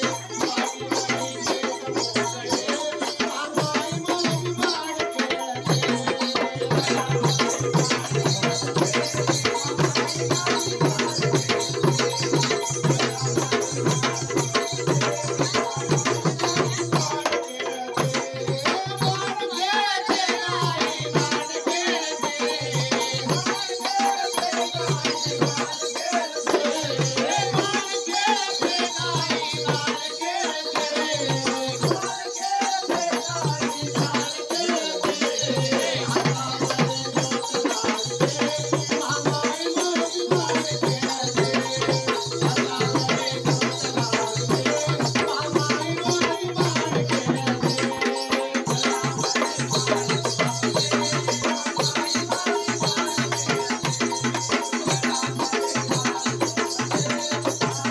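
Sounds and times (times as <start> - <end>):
jingling percussion: 0.0 - 57.9
man singing through a microphone: 0.0 - 57.9.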